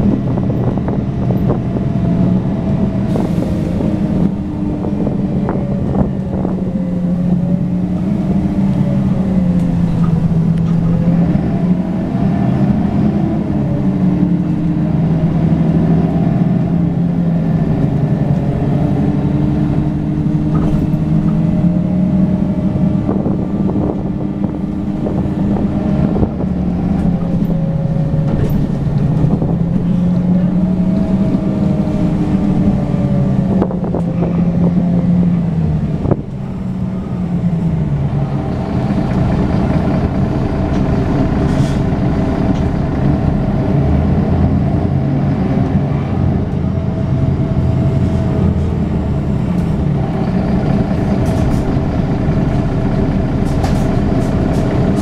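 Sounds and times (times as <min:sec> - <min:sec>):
bus diesel engine from inside cabin: 0:00.0 - 0:55.0.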